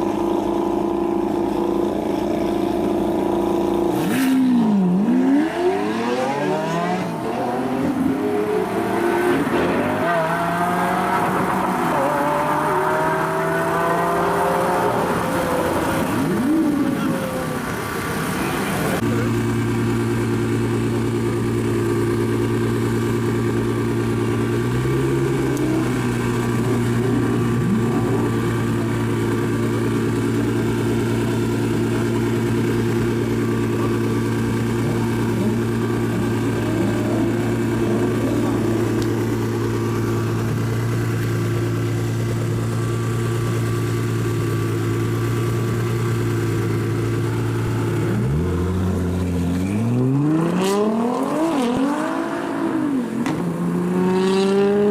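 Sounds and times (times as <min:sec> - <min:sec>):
car exhaust idling and revving: 0:00.0 - 0:54.9.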